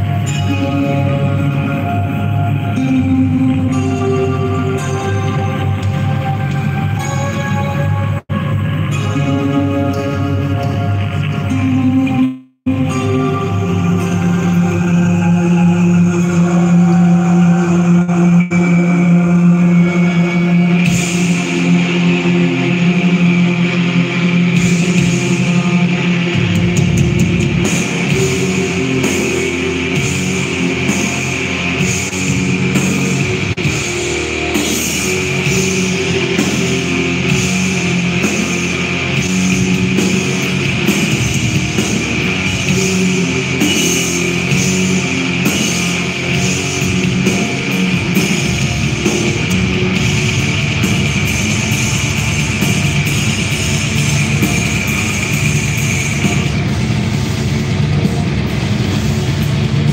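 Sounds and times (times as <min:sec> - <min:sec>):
distorted electric guitars: 0:00.0 - 0:59.9
drum kit: 0:00.0 - 0:59.9.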